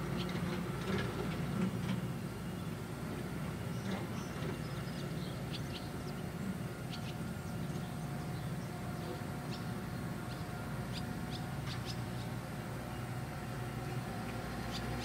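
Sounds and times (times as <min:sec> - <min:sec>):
distant diesel engines rumbling: 0:00.0 - 0:15.0.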